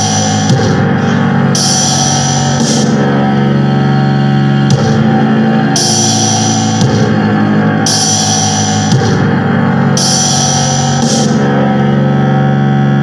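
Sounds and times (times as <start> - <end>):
slow heavy doom music chords: 0.0 - 13.0.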